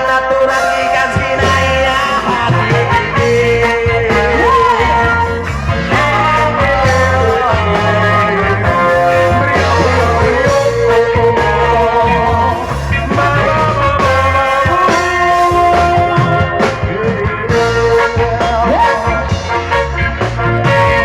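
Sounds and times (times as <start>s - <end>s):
guitar lines: 0.0s - 21.0s
steady bass pattern: 0.6s - 21.0s.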